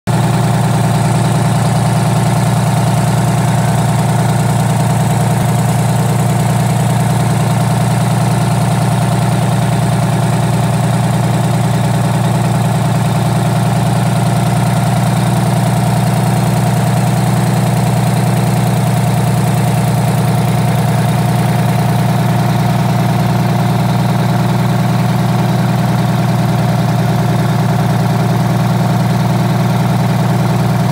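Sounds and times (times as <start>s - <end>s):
diesel engine idling: 0.1s - 30.9s.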